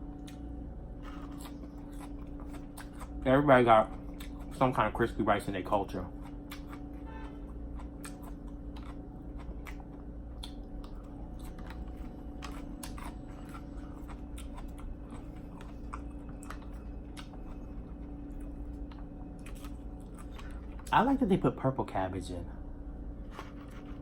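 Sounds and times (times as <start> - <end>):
low hum: 0.0 - 24.0
close chewing of food: 1.0 - 5.2, 5.8 - 21.0.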